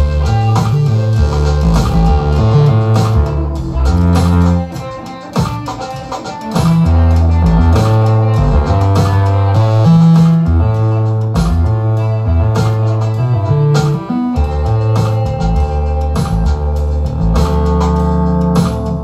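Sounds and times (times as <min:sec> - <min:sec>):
bass line: 0:00.0 - 0:05.0, 0:06.6 - 0:19.0
sampled drum beat: 0:00.0 - 0:19.0.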